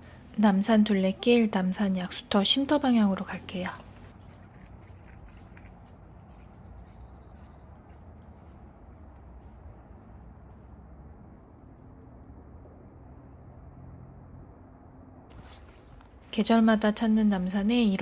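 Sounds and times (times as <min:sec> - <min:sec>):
crickets trilling: 0:03.6 - 0:18.0.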